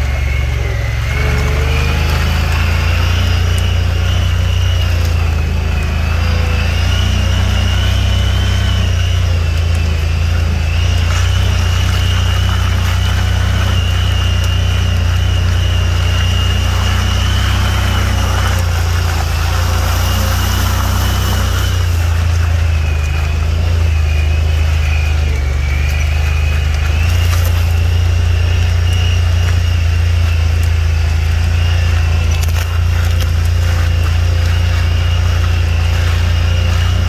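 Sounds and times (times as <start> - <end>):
high whine: 0.0 - 37.0
vehicle engine droning: 0.0 - 37.0.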